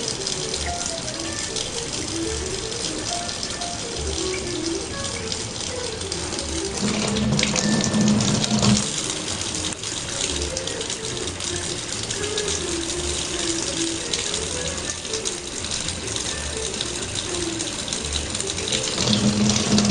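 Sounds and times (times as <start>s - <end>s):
background music with steady beat: 0.0s - 19.9s.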